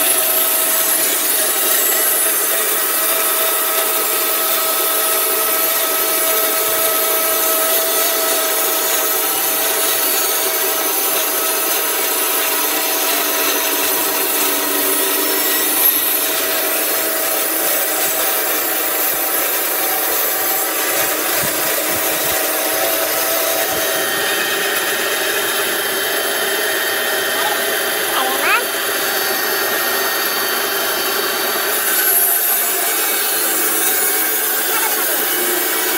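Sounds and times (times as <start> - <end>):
band saw cutting log: 0.0 - 35.9.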